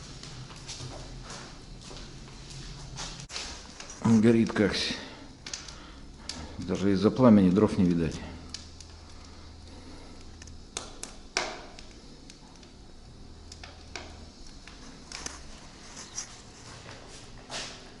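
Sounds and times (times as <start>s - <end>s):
firewood crackling and popping: 0.0s - 18.0s
low steady hum: 0.0s - 18.0s.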